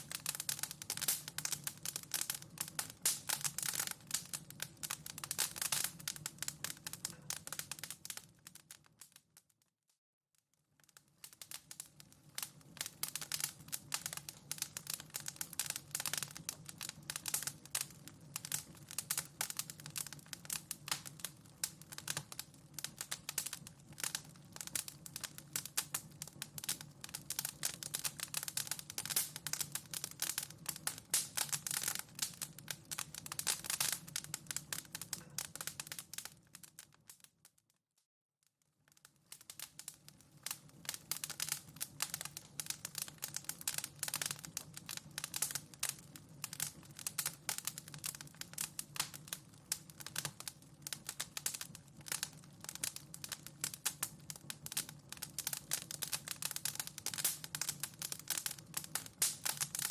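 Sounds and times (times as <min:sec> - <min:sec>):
wood fire crackling: 0:00.0 - 0:09.5, 0:10.8 - 0:37.4, 0:39.0 - 0:59.9.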